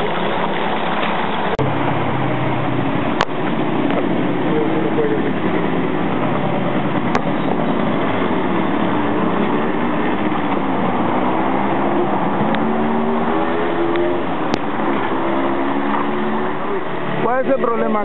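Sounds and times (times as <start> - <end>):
engine running: 0.0 - 18.0
rushing noise: 0.7 - 18.0.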